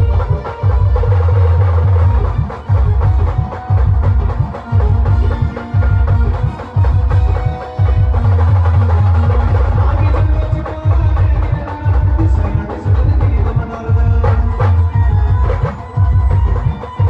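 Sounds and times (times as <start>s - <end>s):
pounding drum beat: 0.0s - 17.0s.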